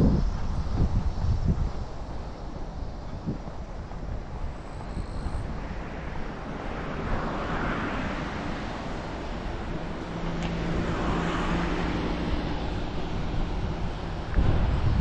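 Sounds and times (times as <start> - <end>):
low engine hum: 0.0 - 15.0
wind noise on microphone: 0.0 - 15.0
vehicles passing by: 1.8 - 15.0.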